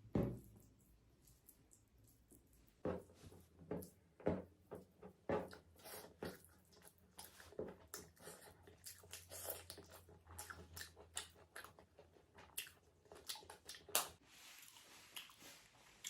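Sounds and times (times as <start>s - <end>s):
wet knocks and squelches of eating: 0.0s - 16.0s.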